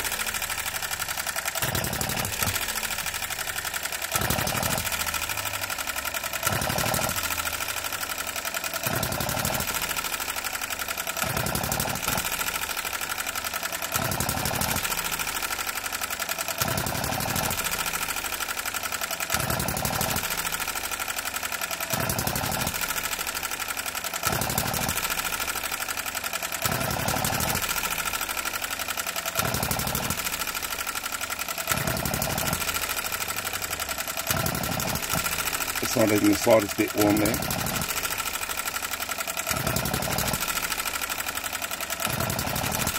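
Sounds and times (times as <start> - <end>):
model engine firing in bursts: 0.0 - 42.9.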